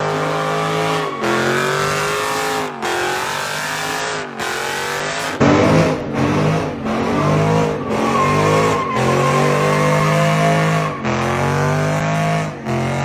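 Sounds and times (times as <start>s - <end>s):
car engine at high revs: 0.0s - 13.0s
tires squealing: 0.0s - 13.0s.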